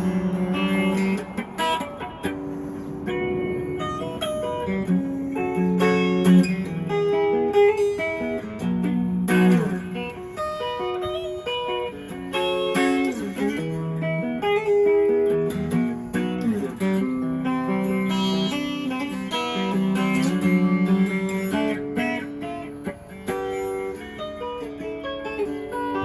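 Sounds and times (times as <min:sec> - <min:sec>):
electric guitar with string bends: 0:00.0 - 0:26.0.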